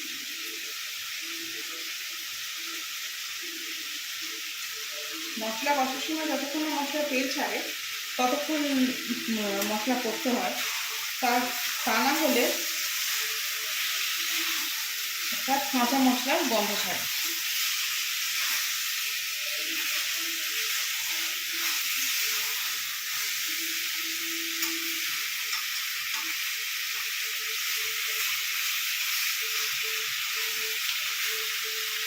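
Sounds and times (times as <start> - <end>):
chicken sizzling in a pan: 0.0 - 32.0.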